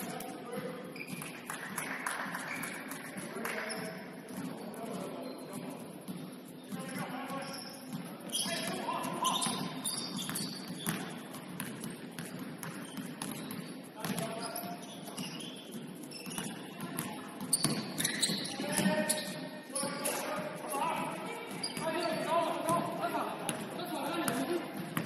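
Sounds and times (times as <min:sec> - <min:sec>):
basketball bouncing on court: 0:00.0 - 0:05.0, 0:05.6 - 0:25.0.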